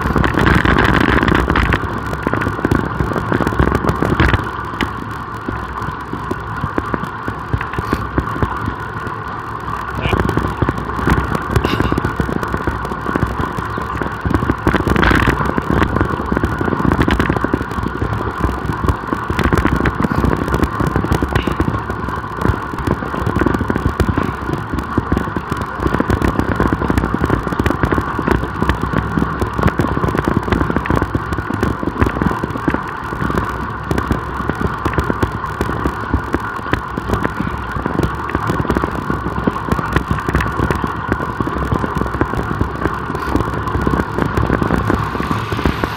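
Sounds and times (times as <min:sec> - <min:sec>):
bicycle tyre road noise: 0:00.0 - 0:45.9
wind buffeting microphone: 0:00.0 - 0:45.9.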